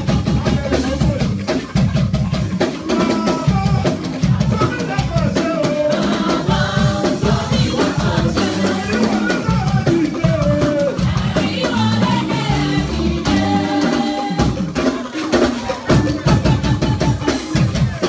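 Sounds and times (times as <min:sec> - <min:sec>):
drum kit and percussion: 0:00.0 - 0:18.0
voices singing: 0:00.0 - 0:18.0.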